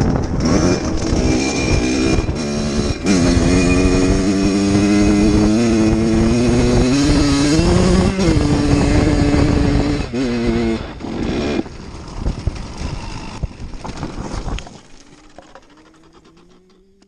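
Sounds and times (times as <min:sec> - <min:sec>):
wind noise: 0:00.0 - 0:16.8
dirt bike engine running: 0:00.0 - 0:17.0
tyre noise: 0:00.0 - 0:17.0.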